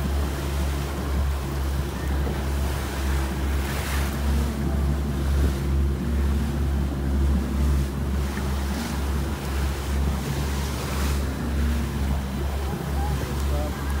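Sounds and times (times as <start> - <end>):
outboard motor humming: 0.0 - 14.0
water rushing from boat wake: 0.0 - 14.0.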